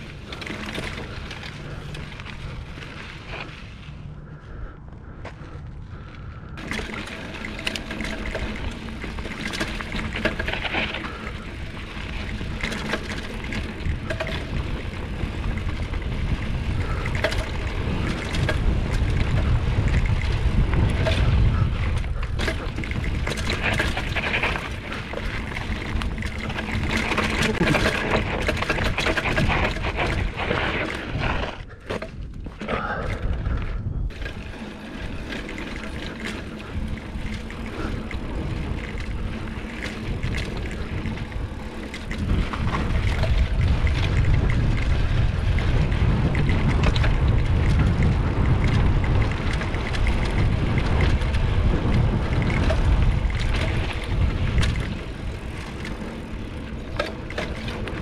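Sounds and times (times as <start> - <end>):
bike rattling: 0.0 - 58.0
tyres crunching over loose ground: 0.0 - 58.0
wind buffeting microphone: 0.0 - 58.0.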